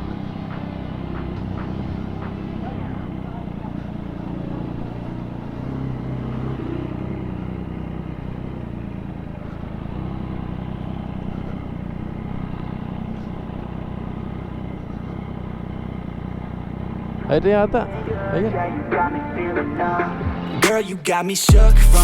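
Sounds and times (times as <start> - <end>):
motorcycle engine running: 0.0 - 20.7, 21.5 - 22.0.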